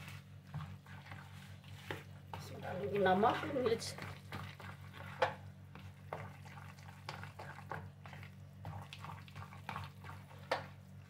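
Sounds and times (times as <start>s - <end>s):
spoon stirring batter in bowl: 0.0s - 11.0s
steady low hum: 0.0s - 11.0s.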